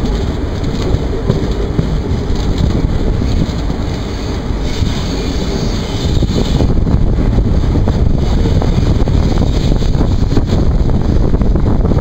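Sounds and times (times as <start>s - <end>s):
train rumble: 0.0s - 12.0s
wind buffeting microphone: 0.0s - 12.0s.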